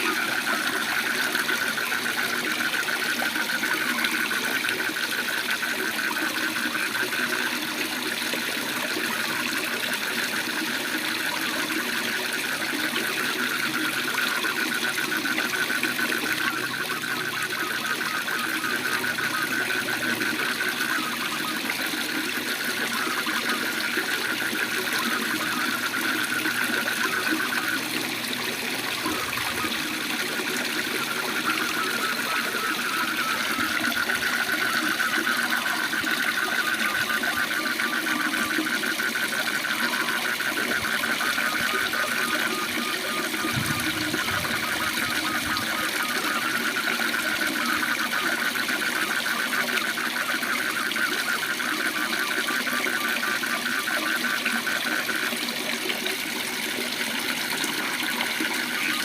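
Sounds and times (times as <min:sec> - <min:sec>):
frogs trilling: 0:00.0 - 0:59.0.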